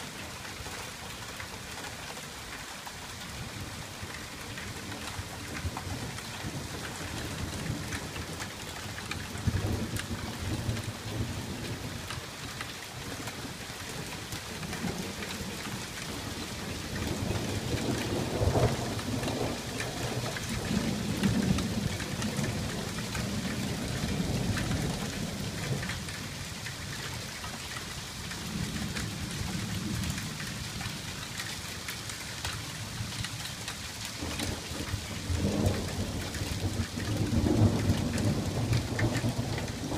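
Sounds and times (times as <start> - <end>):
rain on pavement and water: 0.0 - 39.9.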